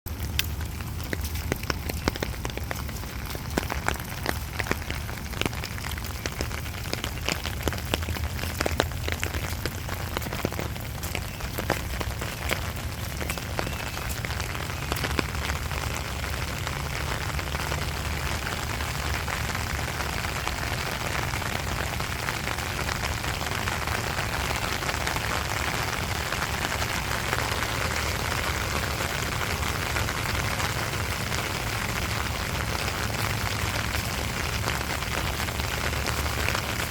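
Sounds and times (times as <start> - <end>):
rain falling: 0.1 - 36.9.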